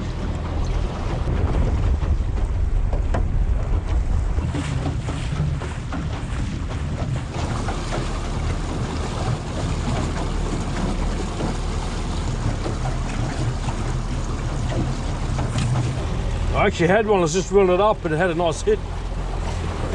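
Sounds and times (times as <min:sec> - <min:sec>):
wind buffeting microphone: 0:00.0 - 0:18.1
outboard motor running: 0:00.0 - 0:19.9
water washing along hull: 0:00.0 - 0:19.9.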